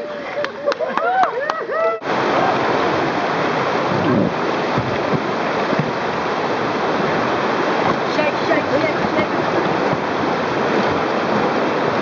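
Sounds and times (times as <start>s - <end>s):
river rapids rushing: 1.6s - 12.0s.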